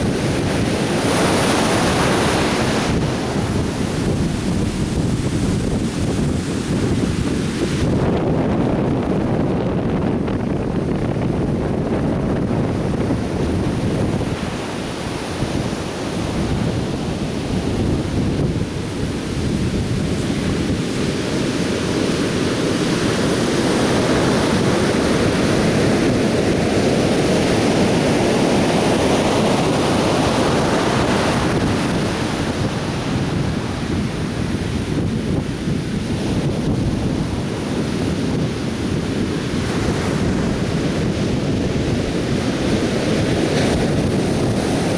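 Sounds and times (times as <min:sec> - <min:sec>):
surf breaking on a beach: 0:00.0 - 0:44.9
wind buffeting the microphone: 0:00.0 - 0:44.9.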